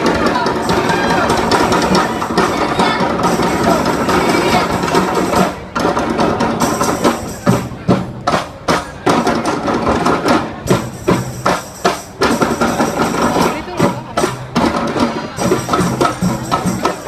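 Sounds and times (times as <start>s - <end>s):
percussion ensemble playing: 0.0s - 17.0s.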